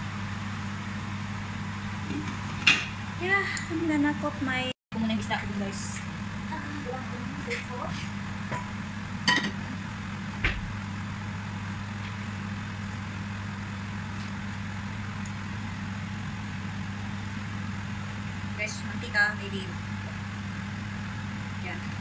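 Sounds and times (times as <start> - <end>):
stove hum and hiss: 0.0 - 22.0.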